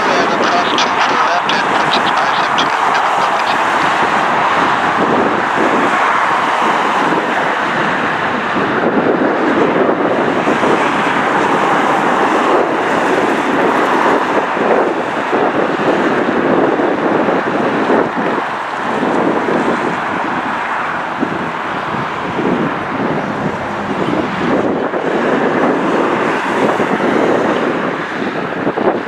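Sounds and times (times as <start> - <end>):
jet engines roaring: 0.0 - 29.0
wind buffeting microphone: 0.0 - 29.0.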